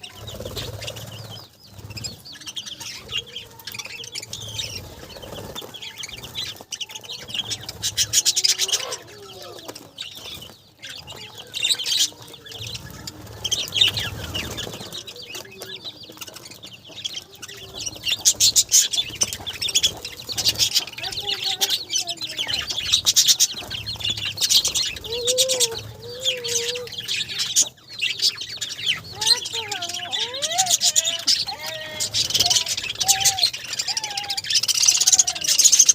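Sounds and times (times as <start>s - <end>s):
budgerigars chirping: 0.0s - 35.9s.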